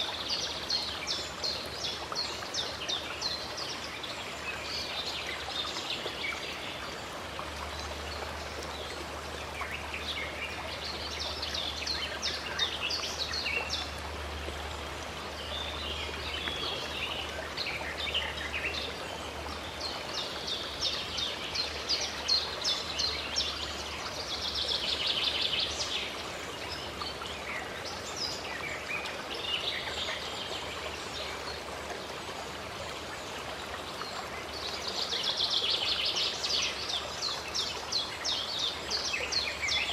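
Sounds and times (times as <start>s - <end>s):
songbirds chirping and trilling: 0.0s - 39.9s
stream water rushing: 0.0s - 39.9s.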